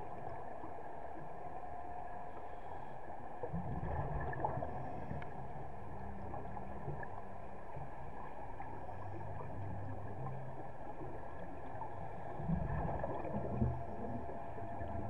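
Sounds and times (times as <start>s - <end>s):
low gurgling rumbles: 0.0s - 15.0s
underwater hum: 0.0s - 15.0s.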